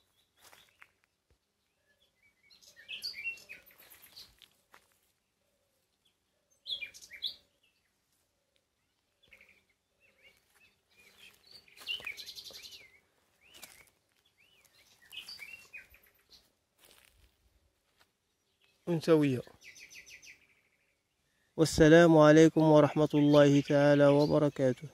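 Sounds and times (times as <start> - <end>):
wild birds chirping and singing: 0.0 - 24.9.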